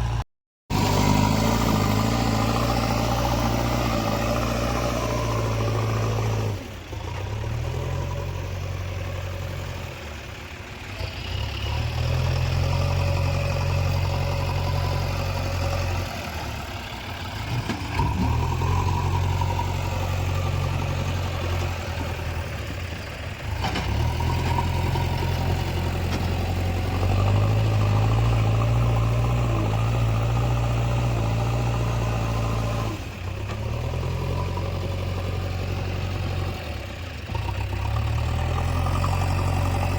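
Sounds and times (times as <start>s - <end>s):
backhoe diesel engine working: 0.0s - 39.9s.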